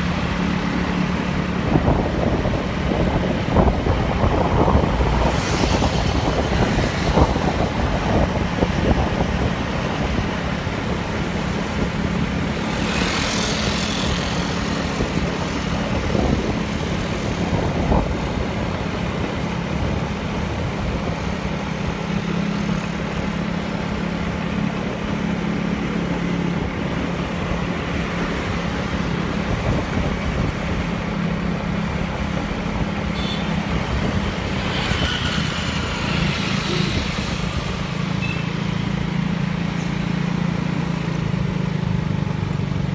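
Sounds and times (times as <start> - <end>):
vehicle engine humming: 0.0 - 42.9
wind and road noise: 0.0 - 42.9.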